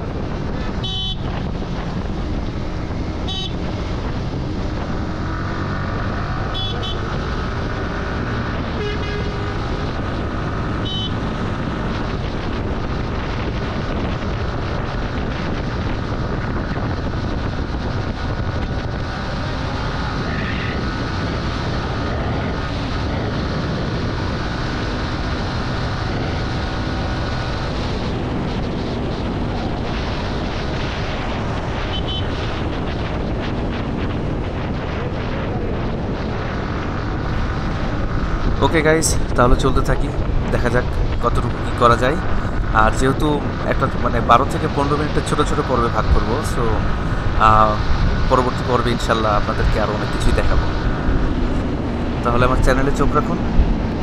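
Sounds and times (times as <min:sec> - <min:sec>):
motorcycle engine at speed: 0:00.0 - 0:54.0
wind and road noise: 0:00.0 - 0:54.0.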